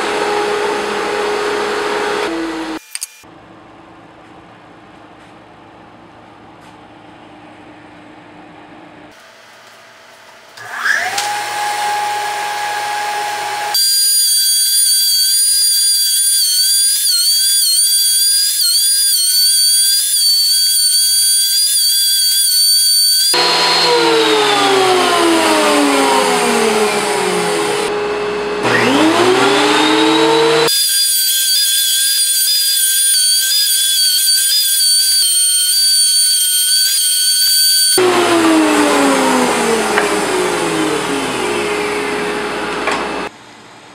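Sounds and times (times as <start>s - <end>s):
thickness planer whining: 0.0s - 3.2s, 10.6s - 43.3s.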